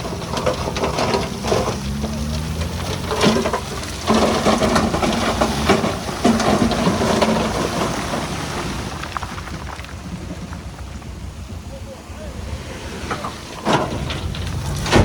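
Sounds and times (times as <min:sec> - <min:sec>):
diesel engine under load: 0:00.0 - 0:15.0
machinery clanking and scraping: 0:00.0 - 0:15.0.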